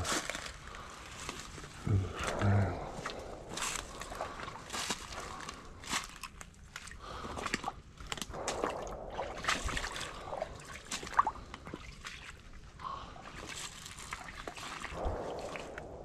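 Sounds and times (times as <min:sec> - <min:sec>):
footsteps sloshing through water: 0:00.0 - 0:16.0.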